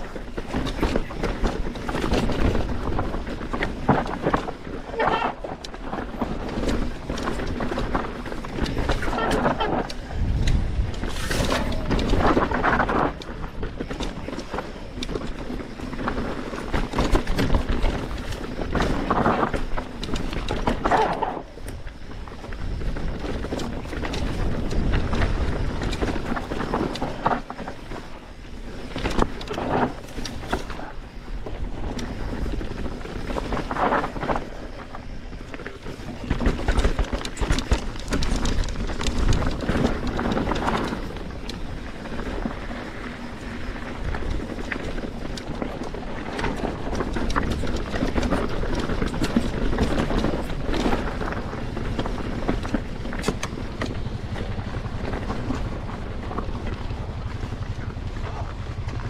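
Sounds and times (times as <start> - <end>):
bike rattling over rough ground: 0.0 - 59.0
wind rumble on microphone: 0.0 - 59.0.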